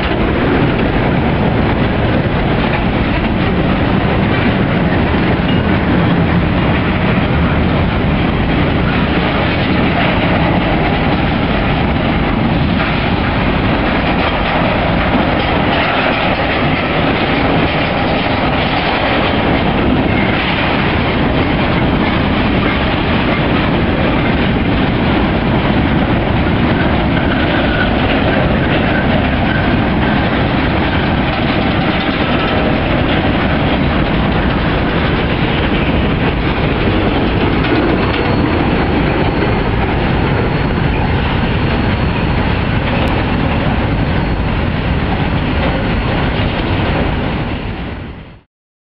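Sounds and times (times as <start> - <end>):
wheels clacking over rail joints: 0.0 - 47.6
freight train rumbling past: 0.0 - 48.4.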